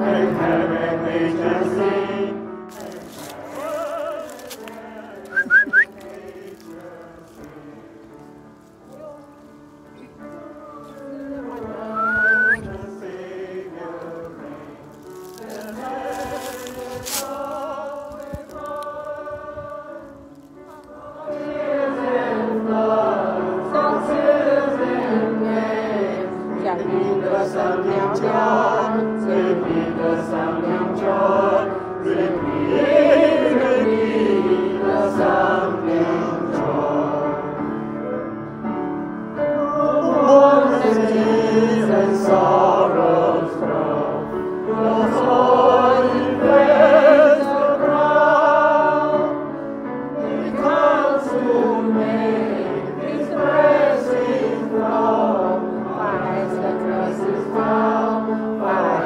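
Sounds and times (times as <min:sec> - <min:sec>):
choir singing held notes: 0:00.0 - 0:38.3, 0:39.4 - 0:59.0.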